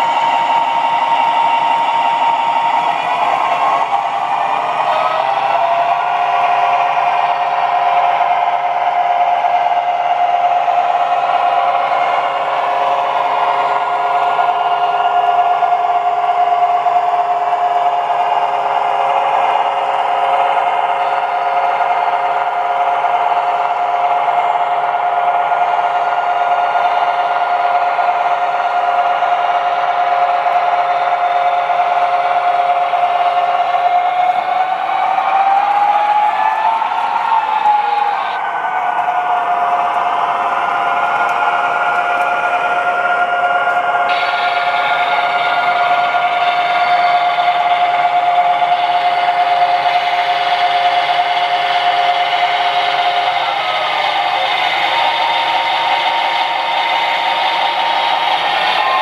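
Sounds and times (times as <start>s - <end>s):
high whine: 0.0s - 59.0s
model train whirring hum: 0.0s - 59.0s.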